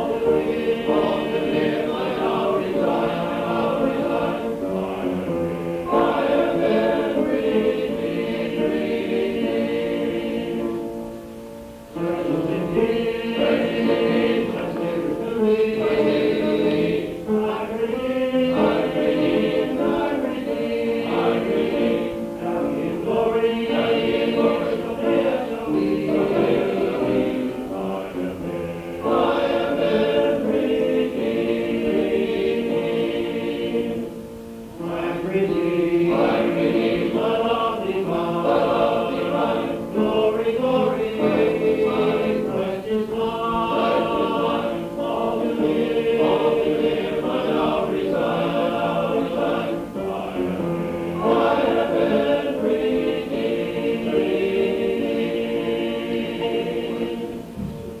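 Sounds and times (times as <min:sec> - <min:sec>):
men's chorus singing in harmony: 0:00.0 - 0:11.0, 0:11.9 - 0:34.2, 0:34.8 - 0:58.0.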